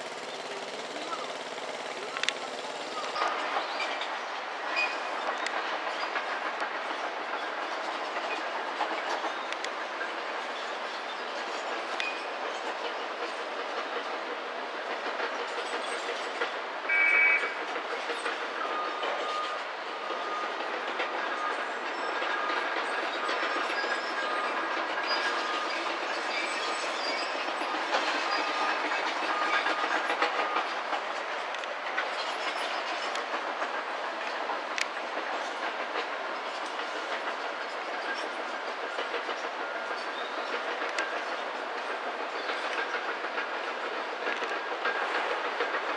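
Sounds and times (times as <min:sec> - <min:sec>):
train running past: 0:00.0 - 0:45.9.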